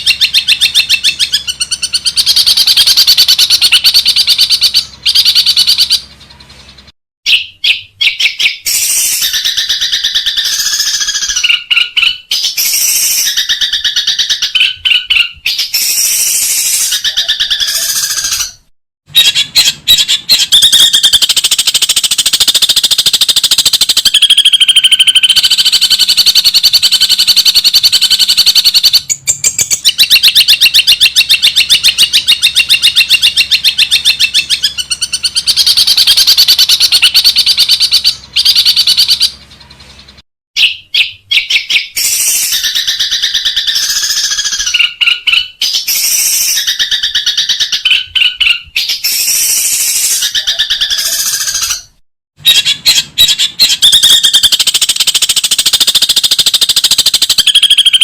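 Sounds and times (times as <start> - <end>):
varied bird calls: 0.0 - 58.0.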